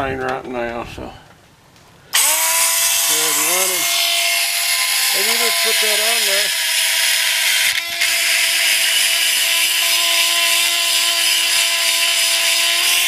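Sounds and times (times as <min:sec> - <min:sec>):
grinder motor whine: 0:02.1 - 0:13.0
grinding wheel on metal: 0:02.2 - 0:13.0.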